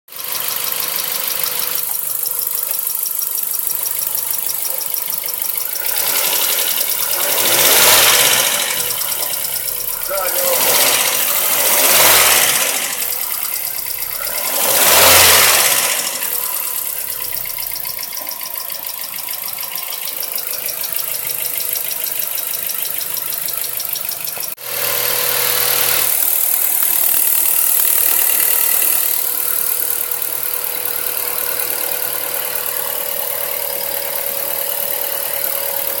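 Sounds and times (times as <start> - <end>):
car engine idling: 0.1 - 36.0.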